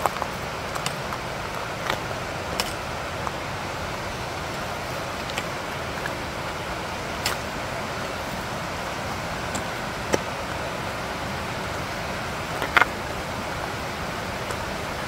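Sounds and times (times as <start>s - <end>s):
brook and waterfall roaring: 0.0s - 15.0s.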